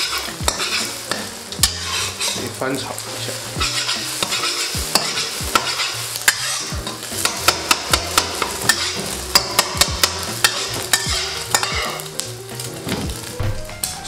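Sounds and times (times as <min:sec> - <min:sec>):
eggs sizzling in hot oil: 0:00.0 - 0:14.0
metal spatula scraping wok: 0:00.0 - 0:14.0.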